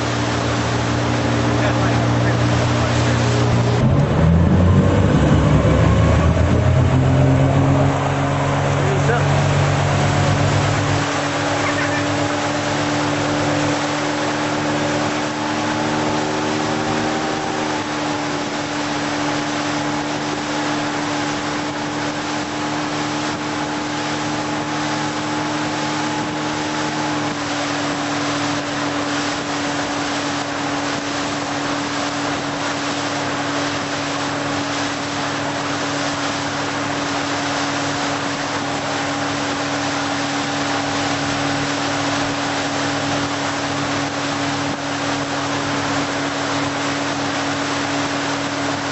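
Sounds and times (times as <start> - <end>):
boat engine drone: 0.0 - 48.9
wind: 0.0 - 48.9.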